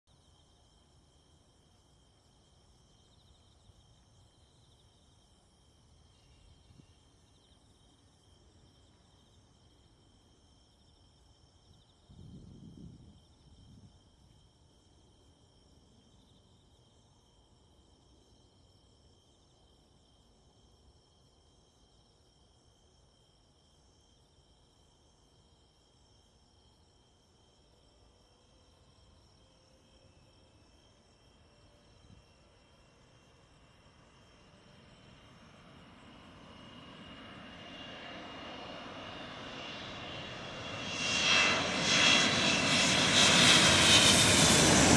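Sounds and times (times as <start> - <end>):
crickets chirring: 0.1 - 44.9.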